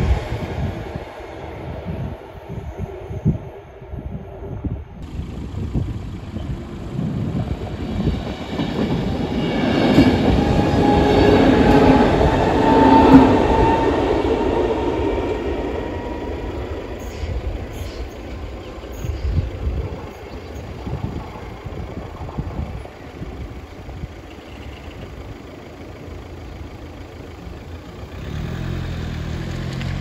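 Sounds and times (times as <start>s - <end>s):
passenger train passing: 0.0s - 30.0s.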